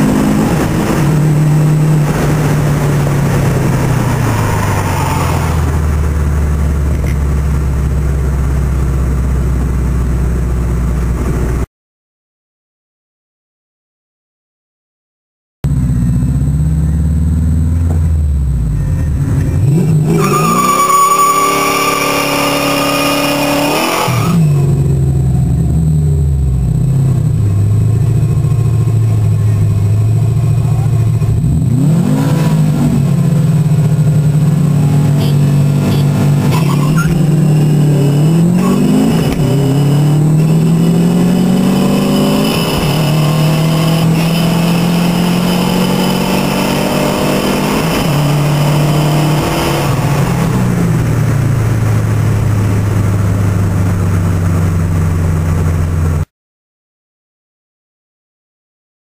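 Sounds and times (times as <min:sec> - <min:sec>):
car engine accelerating through gears: 0:00.0 - 0:11.6, 0:15.7 - 0:56.3.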